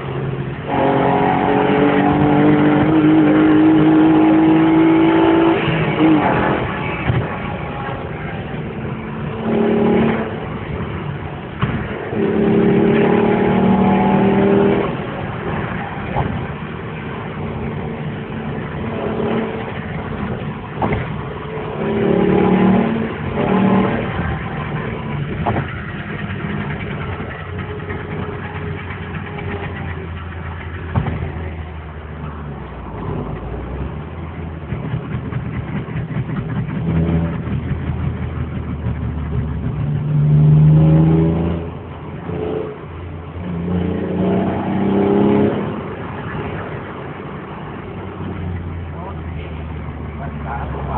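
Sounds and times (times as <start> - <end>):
car engine revving and idling: 0.0 - 50.9.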